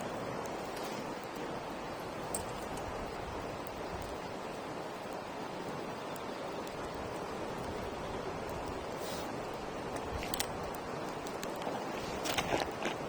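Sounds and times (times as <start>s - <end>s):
campfire hissing: 0.0s - 13.0s
fire crackles: 0.0s - 13.0s.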